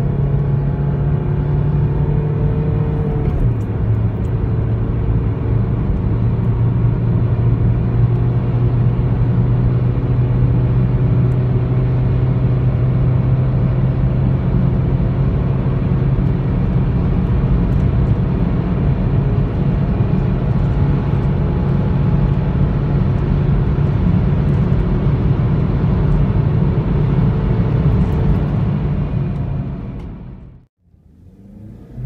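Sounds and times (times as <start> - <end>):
diesel engine accelerating: 0.0 - 32.0
road and wind noise: 0.0 - 32.0.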